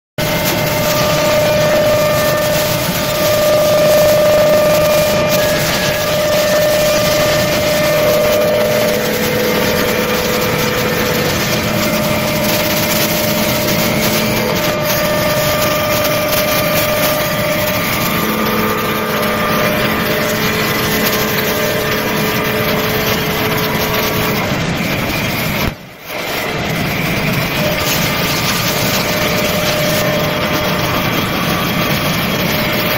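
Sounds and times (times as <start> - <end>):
wood lathe cutting wood: 0.2 - 32.9.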